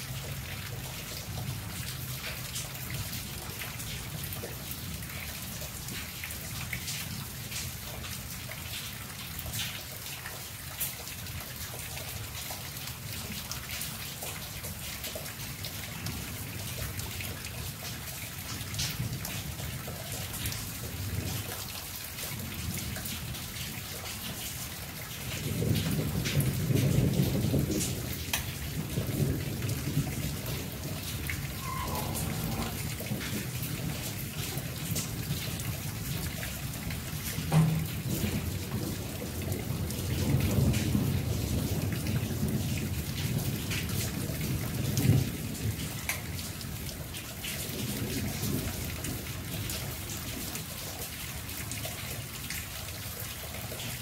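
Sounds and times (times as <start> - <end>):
rain on foliage: 0.0 - 54.0
raindrops ticking: 0.0 - 54.0.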